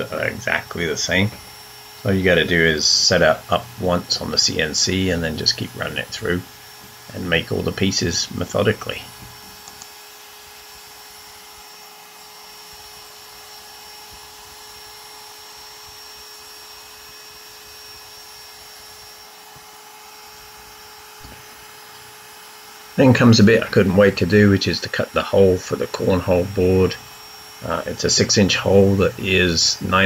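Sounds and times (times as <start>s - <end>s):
vacuum sucking chips: 0.0s - 14.9s, 18.6s - 30.0s
router cutting plywood: 0.0s - 30.0s.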